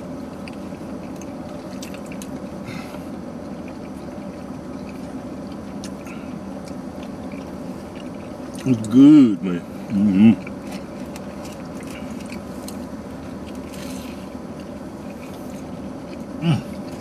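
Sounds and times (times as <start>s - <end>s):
low car interior hum: 0.0s - 17.0s
wet chewing and mouth smacks: 0.1s - 9.1s, 9.8s - 17.0s.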